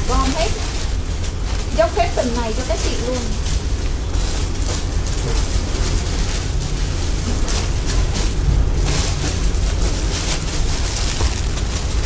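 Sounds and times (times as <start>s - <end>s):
fabric rustling: 0.0s - 12.0s
steady low rumble: 0.0s - 12.0s.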